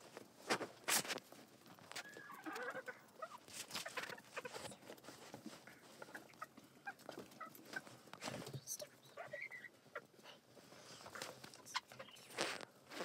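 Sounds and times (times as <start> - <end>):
small clicks and rustles: 0.0 - 9.0, 10.1 - 13.0
chickens clucking: 1.9 - 13.0.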